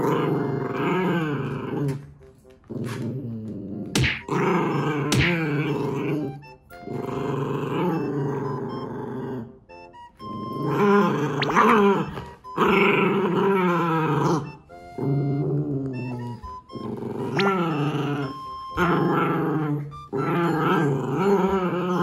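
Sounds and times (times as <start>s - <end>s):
dogs growling in play: 0.0s - 22.0s.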